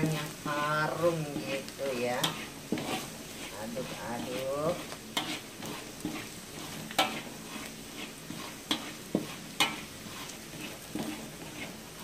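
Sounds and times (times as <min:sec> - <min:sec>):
oil sizzling: 0:00.0 - 0:12.0
spatula scraping a wok: 0:00.0 - 0:12.0.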